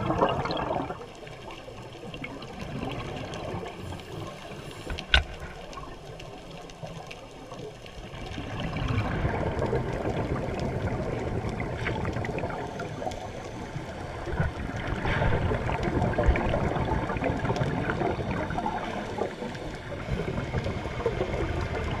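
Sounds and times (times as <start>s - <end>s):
underwater bubbles gurgling: 0.0s - 22.0s.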